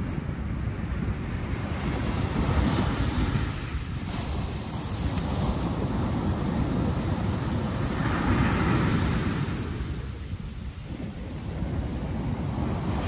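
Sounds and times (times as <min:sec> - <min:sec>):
low rumble of surf: 0:00.0 - 0:13.0
waves washing up pebble beach: 0:01.7 - 0:13.0.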